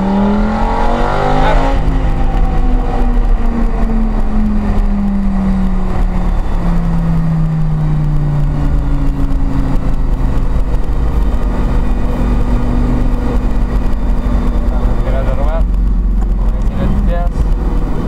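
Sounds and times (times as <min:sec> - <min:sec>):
car engine running: 0:00.0 - 0:18.0
low road rumble: 0:00.0 - 0:18.0.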